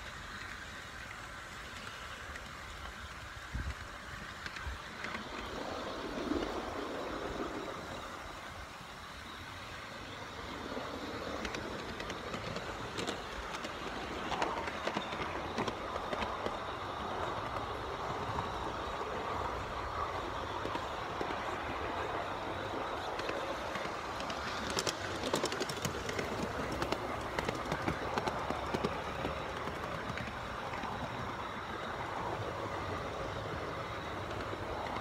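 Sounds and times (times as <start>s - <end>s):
model train running noise: 0.0s - 35.0s
wheels clicking on rails: 0.0s - 35.0s.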